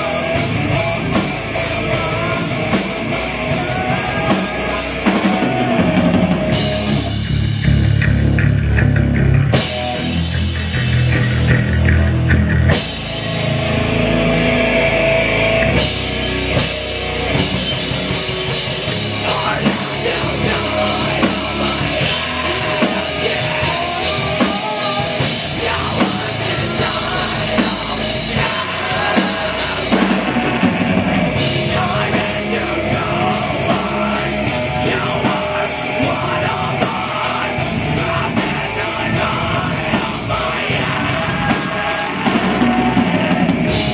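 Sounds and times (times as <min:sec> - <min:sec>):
distorted electric guitar: 0:00.0 - 0:43.9
electric bass: 0:00.0 - 0:43.9
pounding drum kit: 0:00.0 - 0:43.9.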